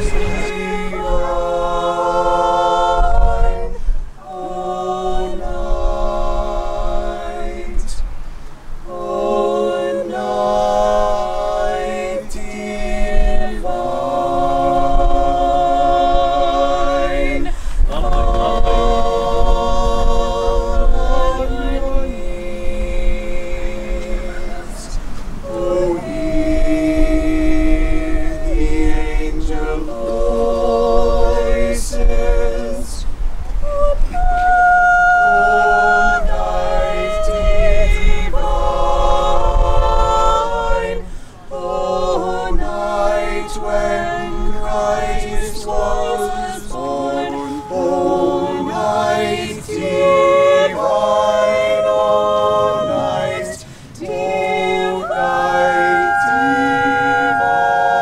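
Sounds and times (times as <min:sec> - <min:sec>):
group singing a cappella carol: 0:00.0 - 0:58.0.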